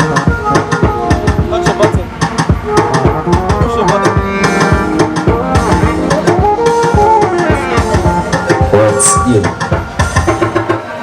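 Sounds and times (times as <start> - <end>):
band music: 0.0 - 11.0
driving drums and hand percussion: 0.0 - 11.0.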